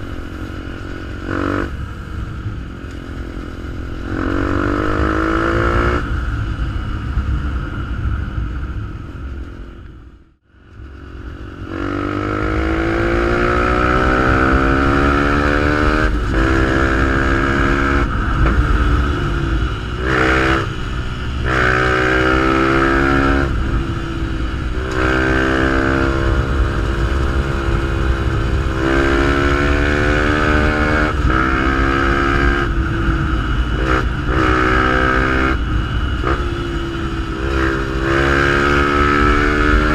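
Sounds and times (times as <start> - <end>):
motorcycle engine revving through gears: 0.0 - 9.9, 10.6 - 39.9.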